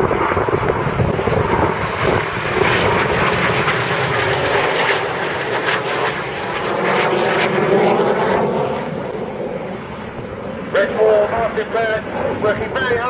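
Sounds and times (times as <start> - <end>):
jet engines flying overhead: 0.0 - 13.0.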